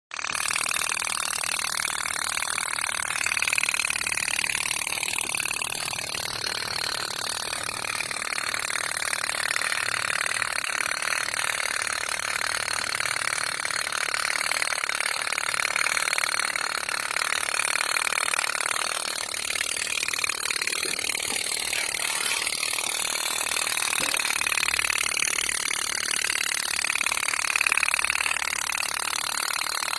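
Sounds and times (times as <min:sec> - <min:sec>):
toy boat motor buzzing: 0:00.1 - 0:29.9.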